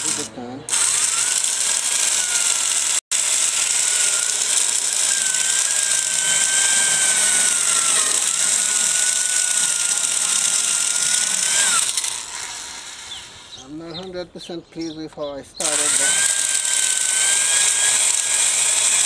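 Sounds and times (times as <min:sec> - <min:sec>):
electric drill boring into wood: 0:00.0 - 0:13.6, 0:15.6 - 0:19.0.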